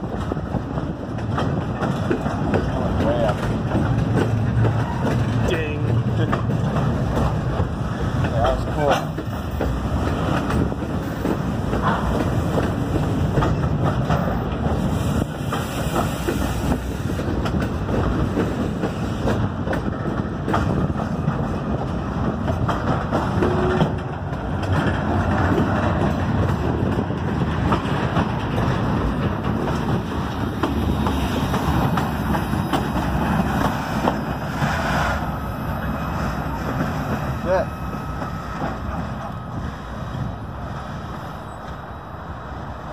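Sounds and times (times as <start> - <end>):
train couplers banging: 0.0 - 39.5
train wheels rumbling on track: 0.0 - 42.9.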